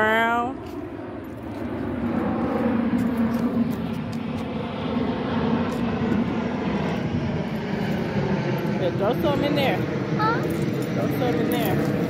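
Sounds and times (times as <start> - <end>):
engine drone with low hum: 0.0 - 12.0.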